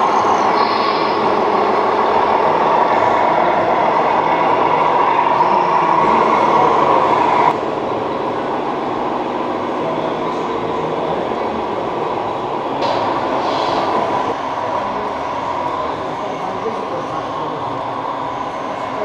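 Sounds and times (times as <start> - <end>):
machine running with whine: 0.0 - 19.0.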